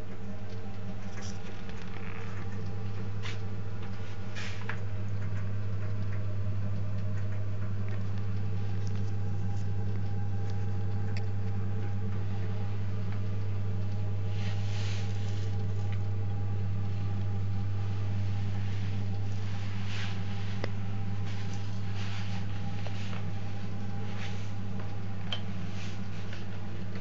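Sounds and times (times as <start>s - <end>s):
gas boiler humming: 0.0s - 27.0s.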